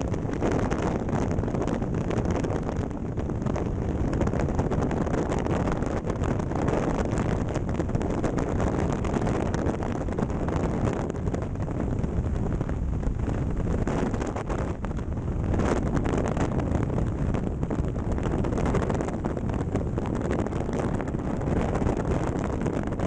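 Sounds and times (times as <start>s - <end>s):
wind blasting microphone: 0.0s - 23.0s.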